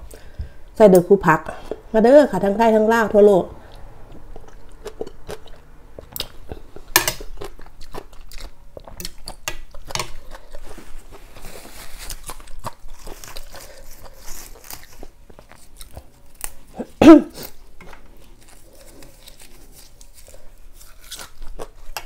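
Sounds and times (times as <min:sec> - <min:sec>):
person chewing crunchy food: 0:03.6 - 0:22.0.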